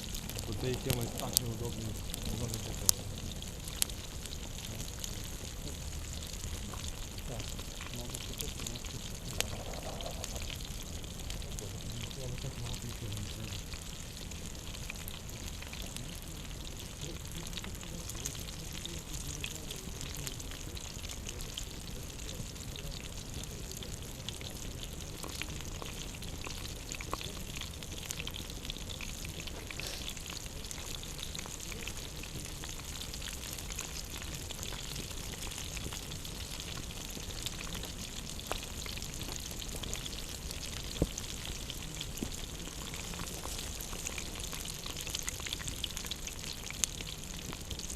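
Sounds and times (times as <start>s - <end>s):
fire crackling: 0.0s - 47.9s
food sizzling over campfire: 0.0s - 47.9s.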